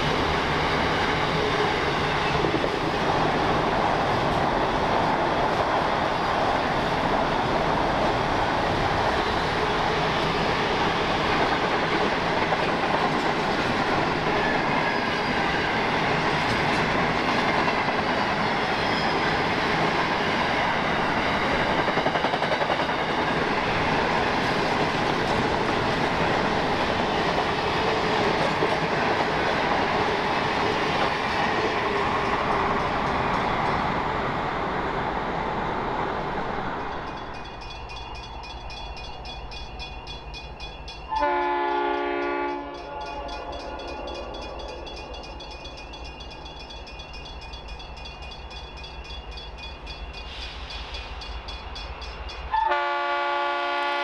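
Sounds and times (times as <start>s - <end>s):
train wheels clattering on rails: 0.0s - 34.0s, 36.7s - 52.6s.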